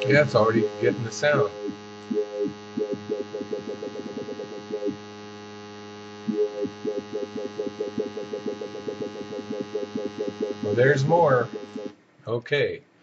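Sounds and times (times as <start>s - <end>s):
wobble bass synth: 0.0s - 11.9s.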